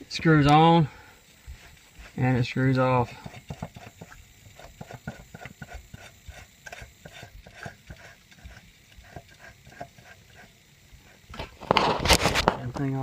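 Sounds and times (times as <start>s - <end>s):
oil filter scraping and clicking: 1.4s - 13.0s.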